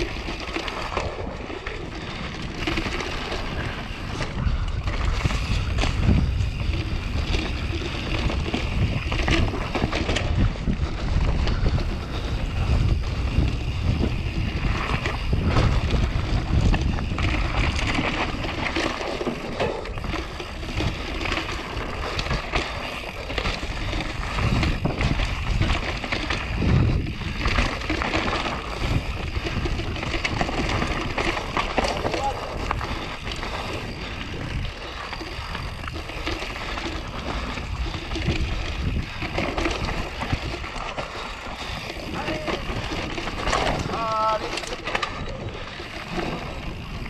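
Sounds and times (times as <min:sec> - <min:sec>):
bike knocking and rattling: 0:00.0 - 0:47.0
tyres rolling over dirt: 0:00.0 - 0:47.0
wind buffeting microphone: 0:00.0 - 0:47.0.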